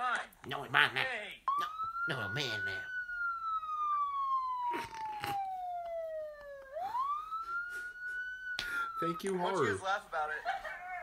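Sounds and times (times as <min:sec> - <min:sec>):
toy police siren wailing: 0:01.5 - 0:10.6.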